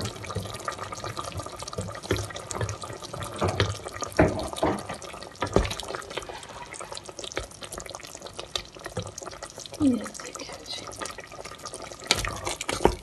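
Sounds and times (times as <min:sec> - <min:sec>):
liquid sloshing and bubbling: 0:00.0 - 0:13.0.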